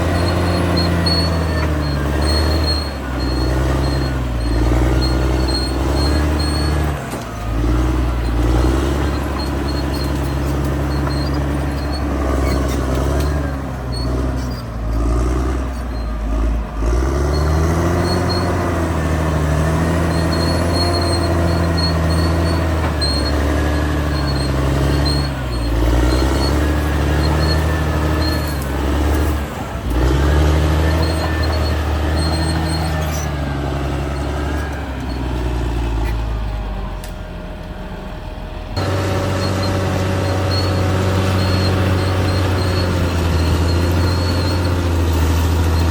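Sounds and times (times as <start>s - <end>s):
bulldozer diesel engine under load: 0.0s - 45.9s.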